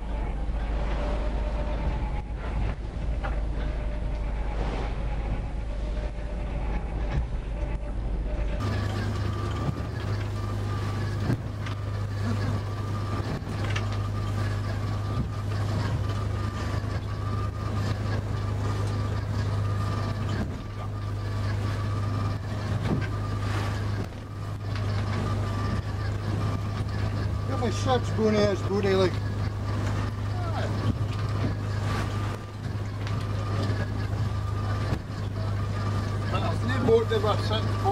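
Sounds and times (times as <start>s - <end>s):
boat engine humming: 0.0s - 37.9s
waves striking hull: 0.0s - 37.9s.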